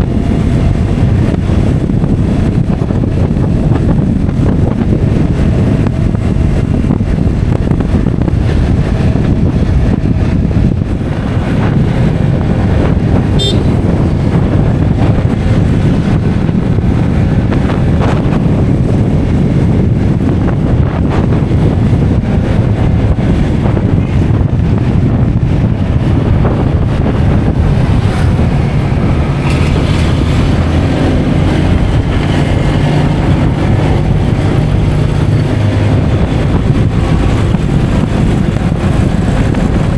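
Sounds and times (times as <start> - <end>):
vehicle engine and road rumble: 0.0 - 39.9
wind buffeting microphone: 0.0 - 39.9.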